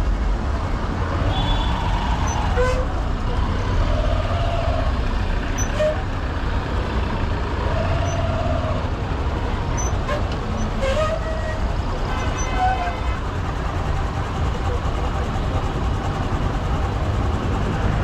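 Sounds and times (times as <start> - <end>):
roar of surrounding traffic: 0.0 - 18.0.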